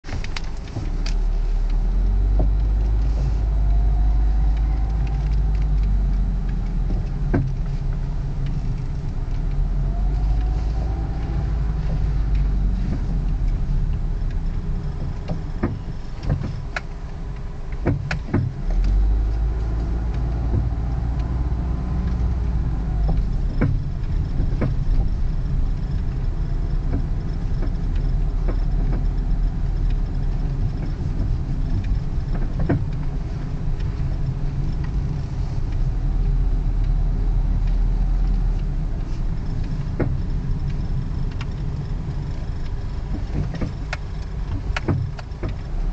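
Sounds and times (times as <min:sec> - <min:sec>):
road and engine rumble: 0:00.0 - 0:45.9
suspension pops and knocks: 0:00.0 - 0:45.9.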